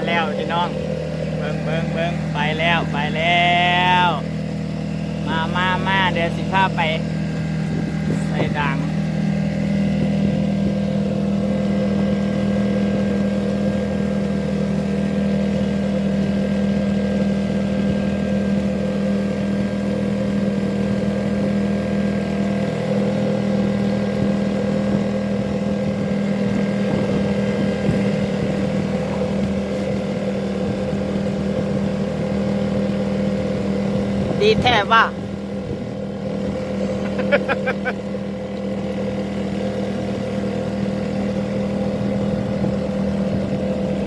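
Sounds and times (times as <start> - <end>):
small outboard motor running: 0.0 - 44.0.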